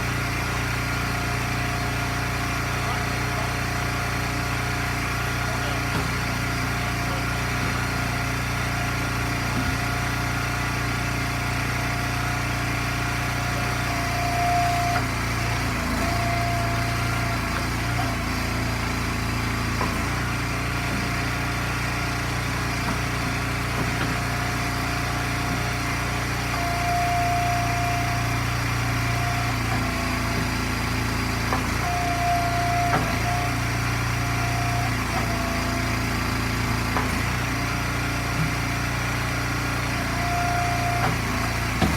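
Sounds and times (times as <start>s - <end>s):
small gas engine running: 0.0s - 41.9s.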